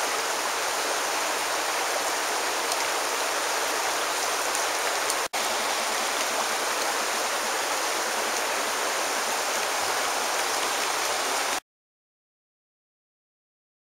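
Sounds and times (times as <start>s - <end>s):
river flowing over rocks: 0.0s - 11.6s.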